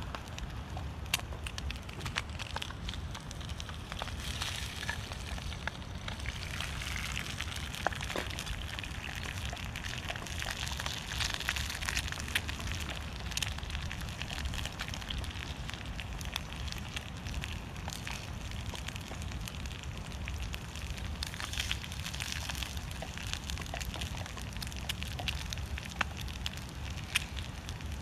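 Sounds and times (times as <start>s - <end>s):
wood fire crackling in a stove: 0.0s - 28.0s.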